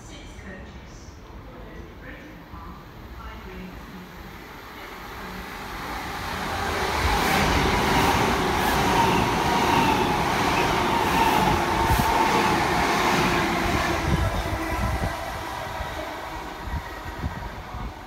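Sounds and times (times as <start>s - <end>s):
electric train passing: 3.0s - 18.0s.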